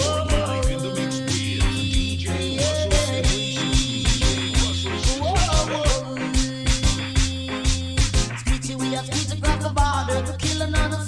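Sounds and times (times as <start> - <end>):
drum beat: 0.0 - 11.0
heavy bass line: 0.0 - 11.0.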